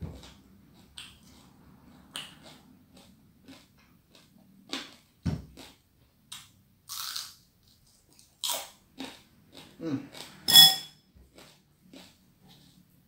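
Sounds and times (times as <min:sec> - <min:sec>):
crunchy chewing: 0:00.1 - 0:10.4, 0:11.2 - 0:13.0.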